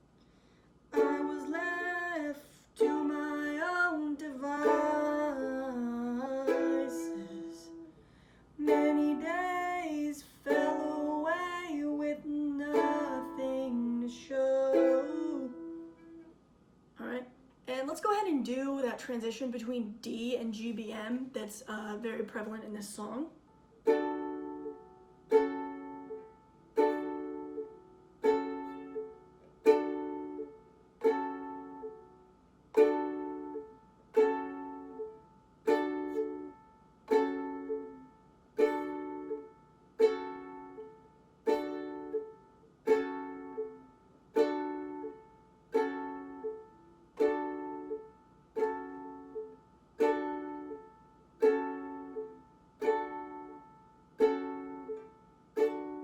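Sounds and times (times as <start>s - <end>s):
ukulele chord strums: 0.9s - 16.4s, 23.5s - 56.0s.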